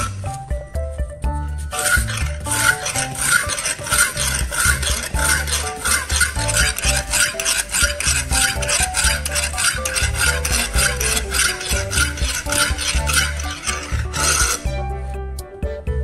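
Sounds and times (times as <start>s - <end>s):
background music: 0.0s - 16.0s
sharpening stone scraping knife: 1.7s - 14.7s.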